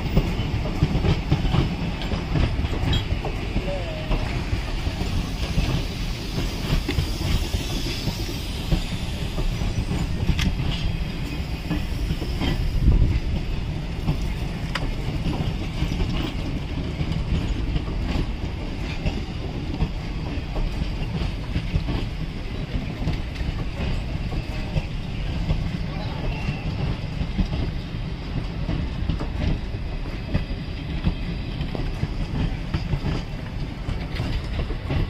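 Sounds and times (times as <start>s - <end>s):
train wheels rumbling: 0.0s - 35.0s
wheels clacking over rail joints: 0.0s - 35.0s.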